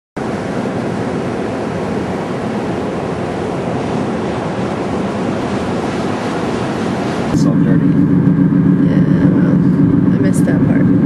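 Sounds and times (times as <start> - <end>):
road and wind noise inside car: 0.2 - 11.0.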